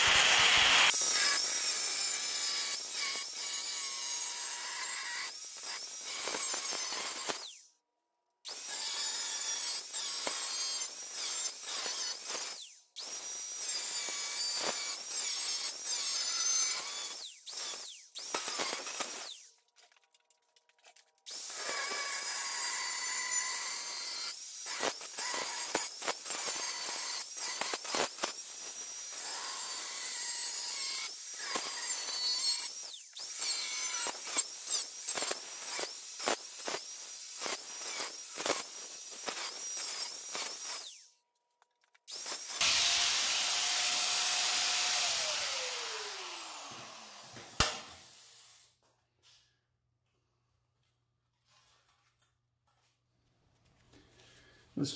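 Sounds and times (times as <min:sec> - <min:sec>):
angle grinder cutting metal: 0:00.0 - 0:07.7, 0:08.5 - 0:19.5, 0:21.3 - 0:41.2, 0:42.1 - 0:48.5.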